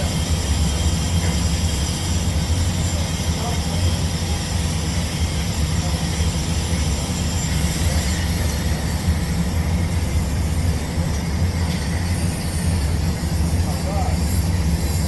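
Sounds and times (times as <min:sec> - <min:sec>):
welding equipment humming and hissing: 0:00.0 - 0:15.0.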